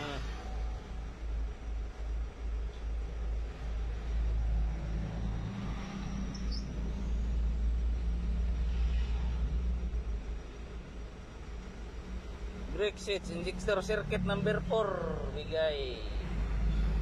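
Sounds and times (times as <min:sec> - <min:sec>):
diesel van engine rumbling: 0:00.0 - 0:05.6, 0:06.4 - 0:17.0.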